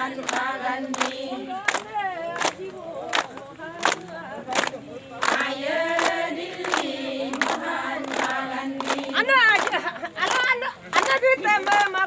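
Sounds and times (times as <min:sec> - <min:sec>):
rhythmic hand claps: 0:00.0 - 0:12.0
women singing together: 0:00.0 - 0:12.0.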